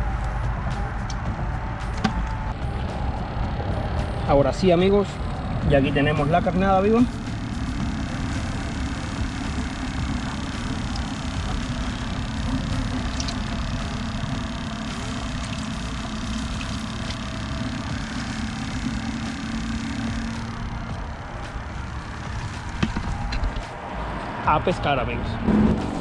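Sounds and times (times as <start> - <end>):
aerator pump humming: 0.0 - 24.6.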